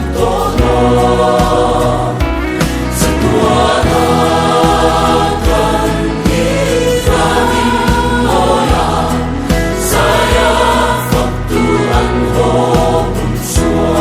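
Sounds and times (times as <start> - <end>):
choir singing gospel music: 0.0 - 14.0.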